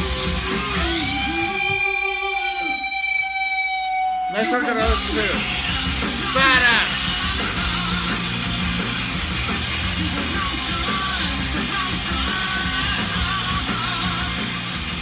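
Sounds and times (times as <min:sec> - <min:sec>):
hard rock music with electric guitar: 0:00.0 - 0:15.0.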